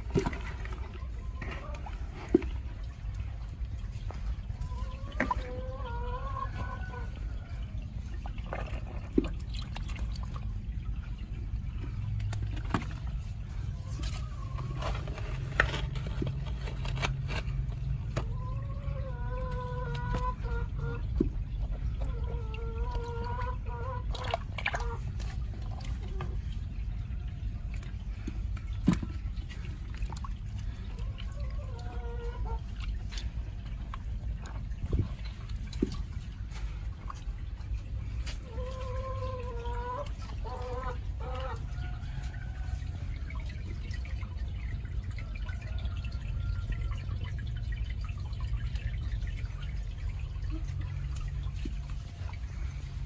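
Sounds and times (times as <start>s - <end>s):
steady low rumble: 0.0s - 53.0s
water splashing and sloshing: 0.0s - 53.0s.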